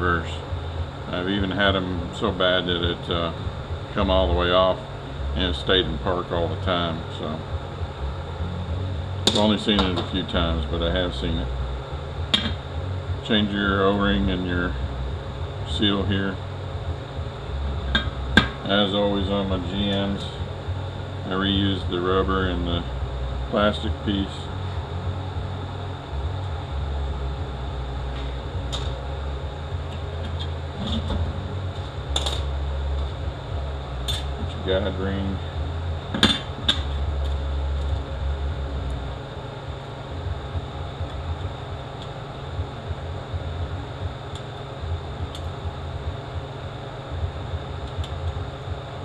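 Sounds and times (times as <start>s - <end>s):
faint high whine: 0.0s - 49.0s
low mechanical hum of machinery: 0.0s - 49.0s
low workshop rumble: 0.0s - 49.0s.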